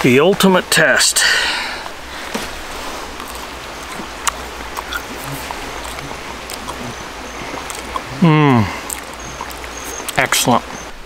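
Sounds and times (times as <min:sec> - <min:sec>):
mountain stream flowing: 0:00.0 - 0:11.0.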